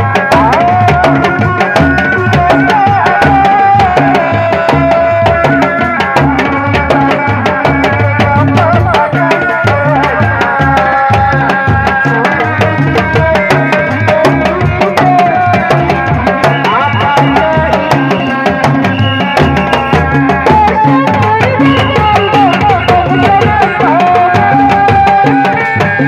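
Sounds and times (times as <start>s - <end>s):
frame drums slapped by hand: 0.0s - 26.0s.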